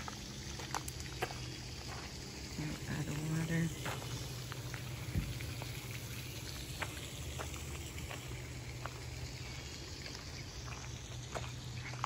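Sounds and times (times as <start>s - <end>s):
fountain spray splashing: 0.0s - 12.0s
low steady hum: 0.0s - 12.0s.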